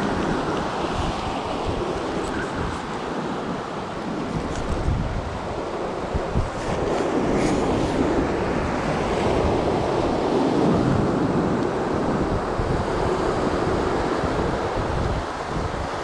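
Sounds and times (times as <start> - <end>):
ocean surf over rocks: 0.0 - 16.0
wind buffeting microphone: 0.0 - 16.0.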